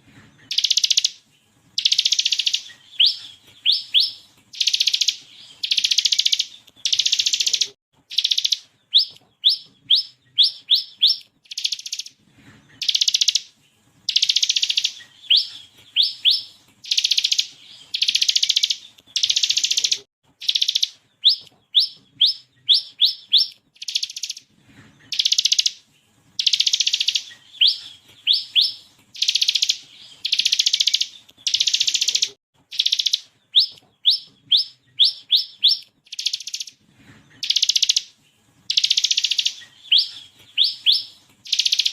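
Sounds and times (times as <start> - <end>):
bird singing buzzing rattles: 0.5 - 1.1, 1.8 - 12.1, 14.1 - 24.4, 26.4 - 36.7, 37.4 - 38.1, 38.7 - 41.9.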